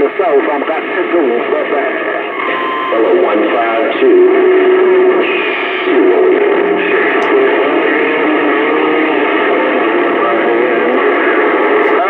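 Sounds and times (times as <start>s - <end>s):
garbled voices over radio speaker: 0.0s - 12.0s.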